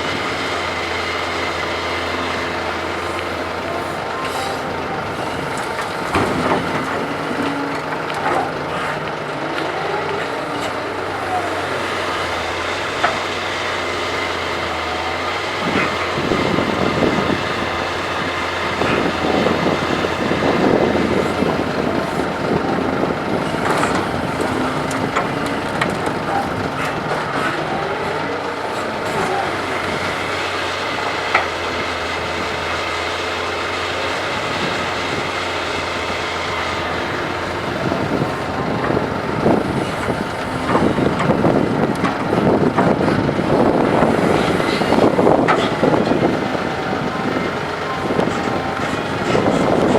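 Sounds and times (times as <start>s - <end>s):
excavator diesel engine under load: 0.0s - 49.9s.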